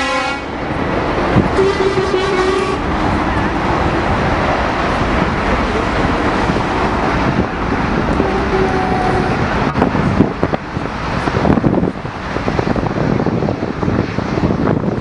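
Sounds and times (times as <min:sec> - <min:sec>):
jet engine noise: 0:00.0 - 0:15.0
wind buffeting microphone: 0:00.0 - 0:15.0.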